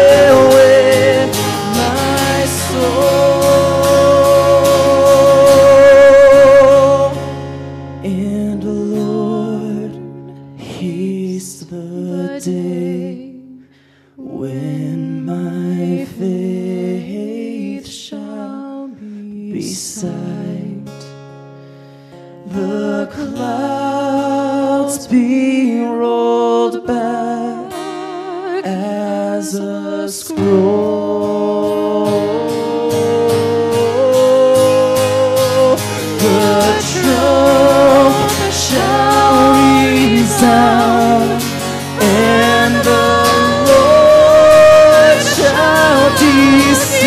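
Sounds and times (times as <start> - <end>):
man and woman singing: 0.0 - 7.3, 8.0 - 13.6, 14.2 - 21.0, 22.5 - 47.0
strummed acoustic guitar: 0.0 - 11.8, 19.6 - 47.0.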